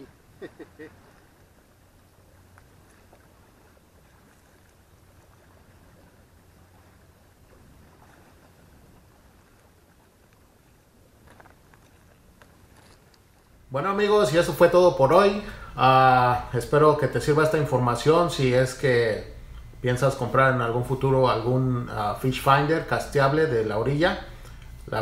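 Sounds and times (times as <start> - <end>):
water lapping at shore: 0.0 - 25.0
wind: 0.0 - 25.0.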